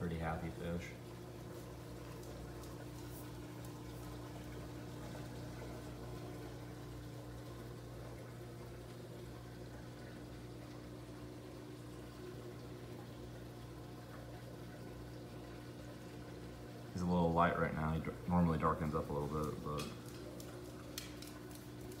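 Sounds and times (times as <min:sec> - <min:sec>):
aquarium pumps humming: 0:00.0 - 0:22.0.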